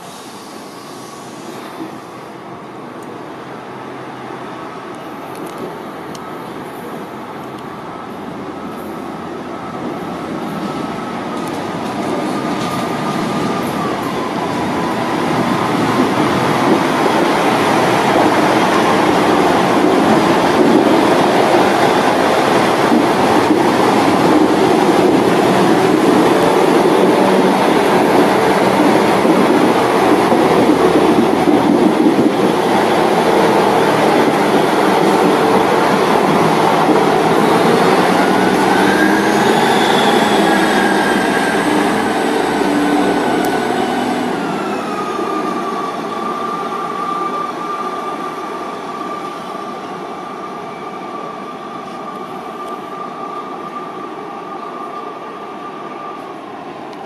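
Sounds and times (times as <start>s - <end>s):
train whine: 0.0s - 57.0s
train wheels rumbling on rails: 4.0s - 57.0s.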